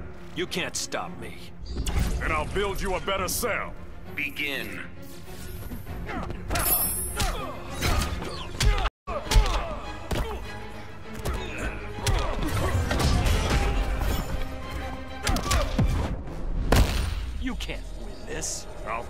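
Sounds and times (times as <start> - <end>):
dramatic music: 0.0 - 19.0.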